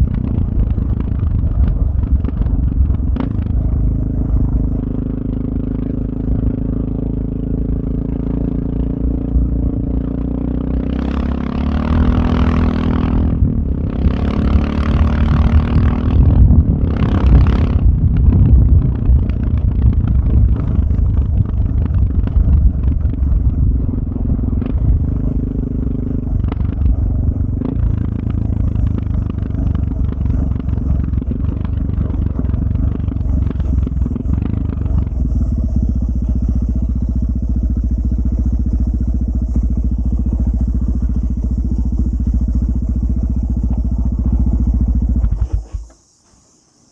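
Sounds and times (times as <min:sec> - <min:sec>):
motorcycle engine running: 0:00.0 - 0:46.7.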